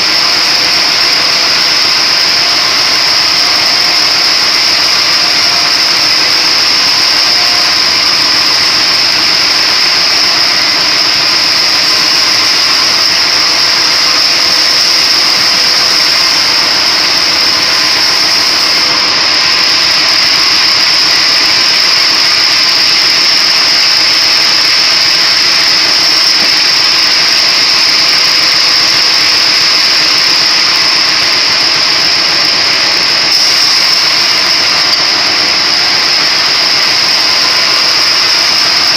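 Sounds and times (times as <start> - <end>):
splitting machine motor whining: 0.0 - 38.9.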